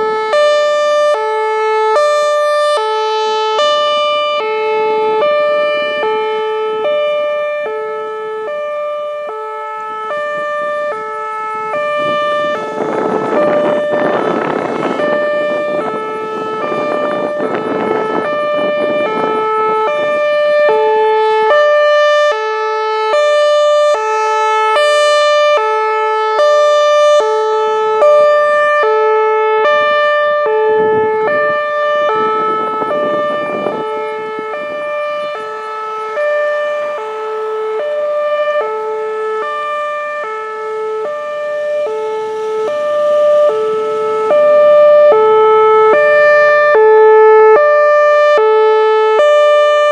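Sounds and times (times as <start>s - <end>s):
hi-lo warning siren: 0.0s - 49.9s.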